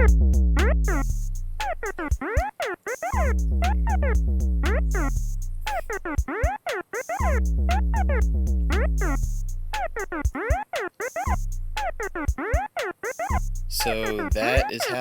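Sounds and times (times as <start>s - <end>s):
electronic drum beat with bass: 0.0s - 15.0s.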